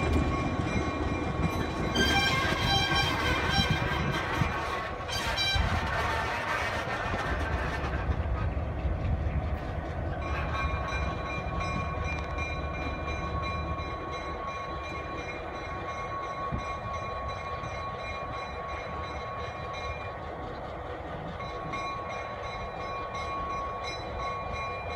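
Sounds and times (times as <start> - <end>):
diesel locomotive engine rumble: 0.0 - 24.9.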